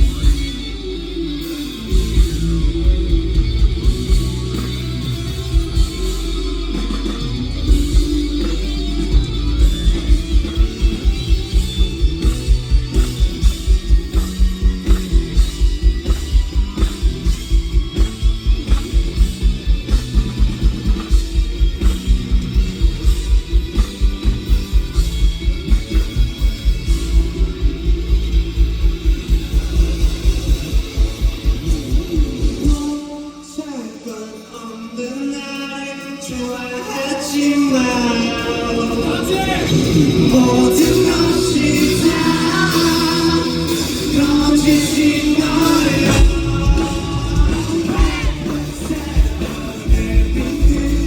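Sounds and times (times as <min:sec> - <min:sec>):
rock band playing: 0:00.0 - 0:51.0
fast kick-drum beat: 0:01.9 - 0:32.9, 0:41.0 - 0:51.0.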